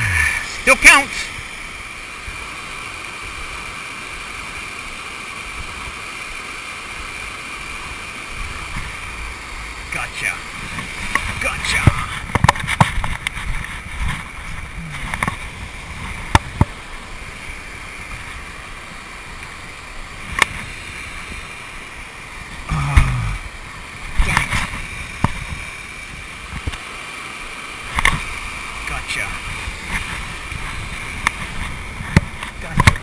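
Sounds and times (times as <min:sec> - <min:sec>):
small waterfall rushing into pond: 0:00.0 - 0:33.0.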